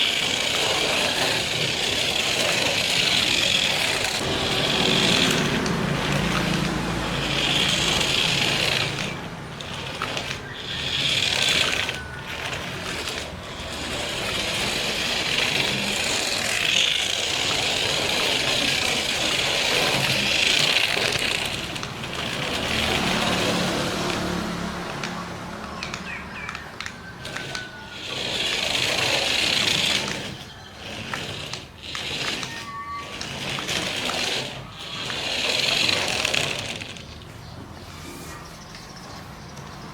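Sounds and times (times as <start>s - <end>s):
toy car electric motor: 0.0s - 39.9s
tyres over rough ground: 0.0s - 39.9s.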